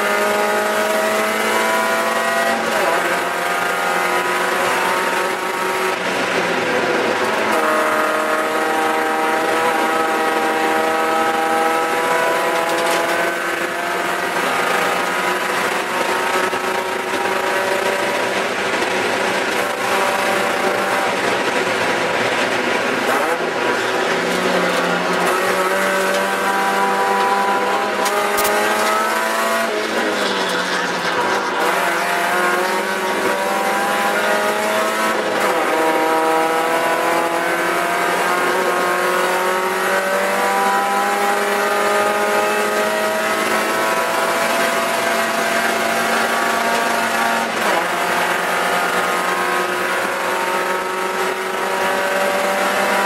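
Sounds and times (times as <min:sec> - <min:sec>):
race car engine revving: 0:00.0 - 0:53.0
wind and road noise: 0:00.0 - 0:53.0.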